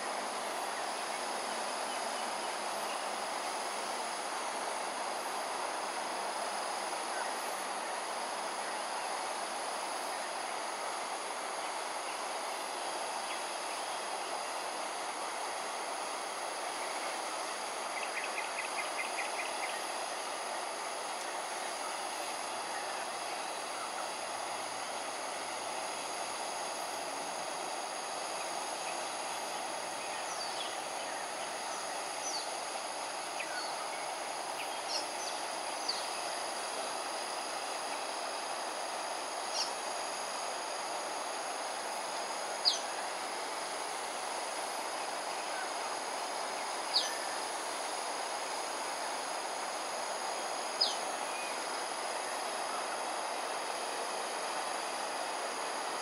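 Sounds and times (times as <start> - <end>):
background hum: 0.0 - 56.0
high insect drone: 0.0 - 56.0.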